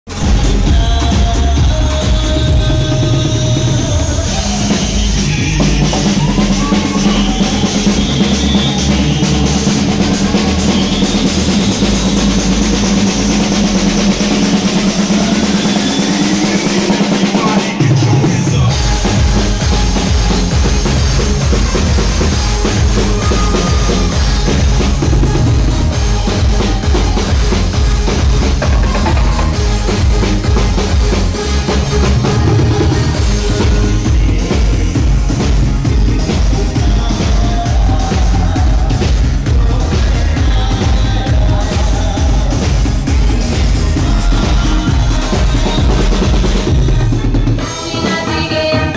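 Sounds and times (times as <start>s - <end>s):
loud dance music: 0.0s - 48.9s
live drum kit: 0.1s - 48.9s.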